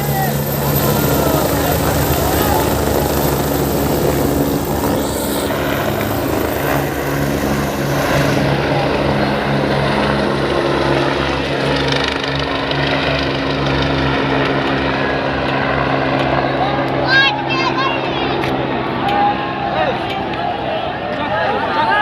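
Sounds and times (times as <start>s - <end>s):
helicopter rotor and engine hum: 0.0s - 22.0s.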